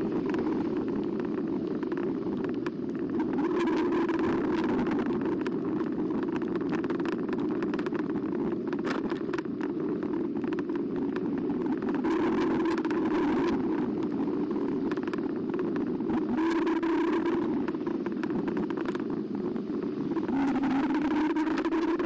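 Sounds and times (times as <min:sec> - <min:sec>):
faint motor whine: 0:00.0 - 0:22.0
rushing wind: 0:00.0 - 0:22.0.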